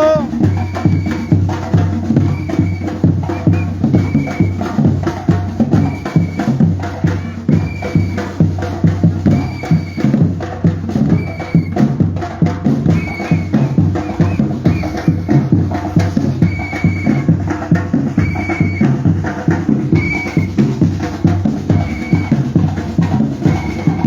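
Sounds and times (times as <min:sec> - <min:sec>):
drum ensemble playing: 0:00.0 - 0:24.0.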